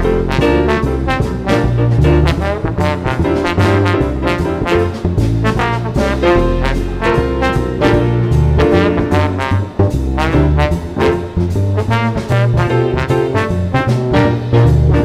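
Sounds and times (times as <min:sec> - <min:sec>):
double bass: 0:00.0 - 0:15.0
drum kit with cymbal strokes: 0:00.0 - 0:15.0
piano: 0:00.0 - 0:15.0
trombone melody: 0:00.0 - 0:15.0.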